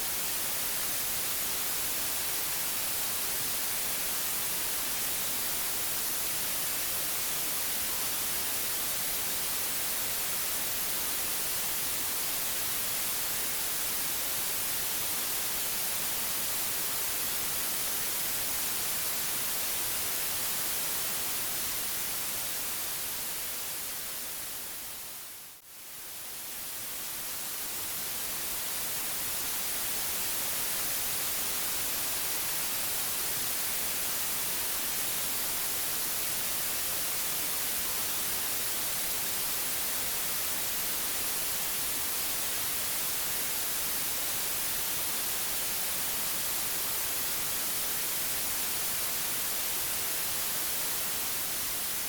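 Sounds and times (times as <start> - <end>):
white noise hiss: 0.0 - 52.0.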